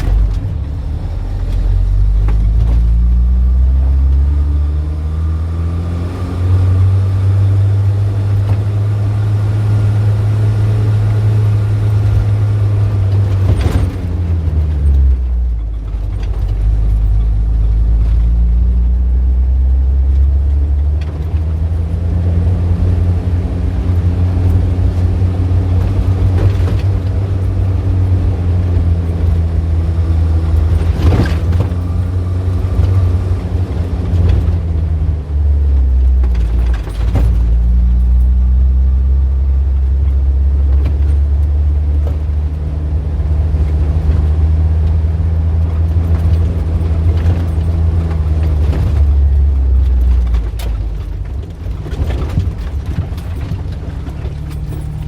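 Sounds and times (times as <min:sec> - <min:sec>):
traffic noise: 0:00.0 - 0:55.0
vehicle engine humming: 0:00.0 - 0:55.0.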